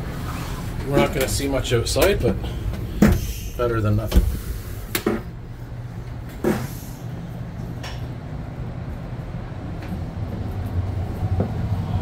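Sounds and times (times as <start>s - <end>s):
train coach interior rumble: 0.0s - 12.0s.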